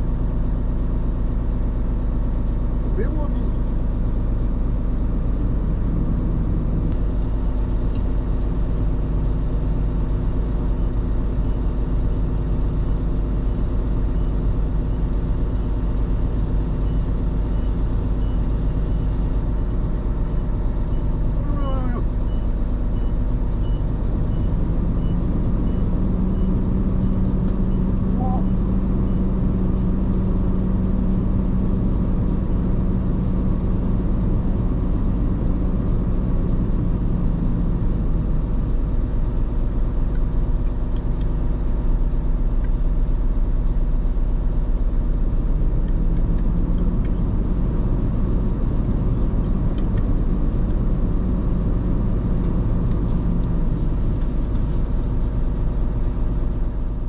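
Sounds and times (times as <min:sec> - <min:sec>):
low road rumble: 0:00.0 - 0:57.0
truck diesel engine running: 0:00.0 - 0:57.0.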